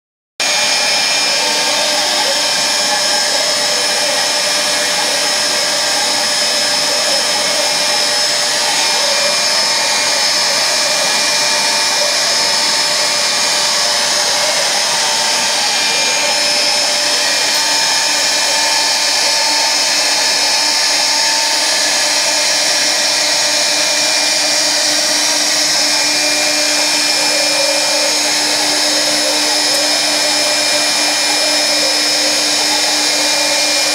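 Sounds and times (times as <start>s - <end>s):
dust extraction rushing: 0.4s - 33.9s
router spindle high whine: 0.4s - 33.9s.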